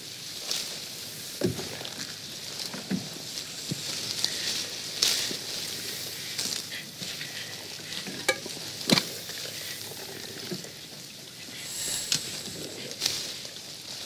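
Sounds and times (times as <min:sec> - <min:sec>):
leaves rustling: 0:00.0 - 0:14.0.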